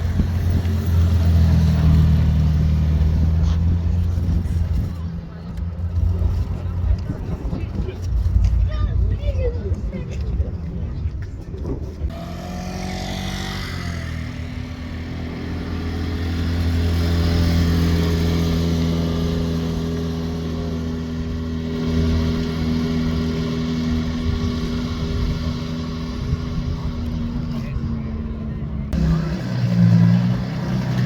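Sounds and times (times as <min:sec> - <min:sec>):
vehicle engine running: 0:00.0 - 0:09.2, 0:12.0 - 0:31.0.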